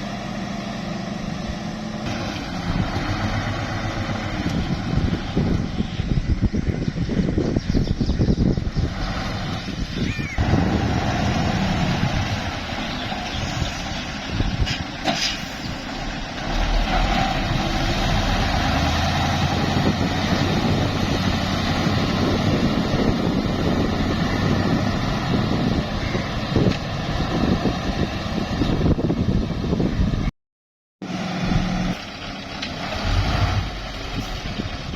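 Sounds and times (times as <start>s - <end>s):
truck engine rumbling: 0.0s - 30.3s, 31.0s - 34.9s.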